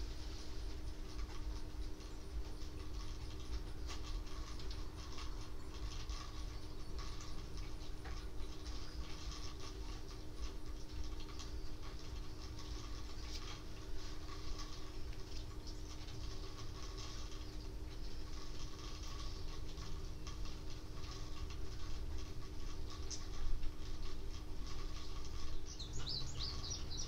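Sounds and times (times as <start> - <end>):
faint steady hum: 0.0 - 27.0
rain pattering: 0.0 - 27.0.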